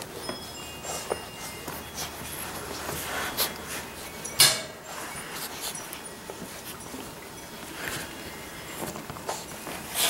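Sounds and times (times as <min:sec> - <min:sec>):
puppies scuffling: 0:00.0 - 0:10.0.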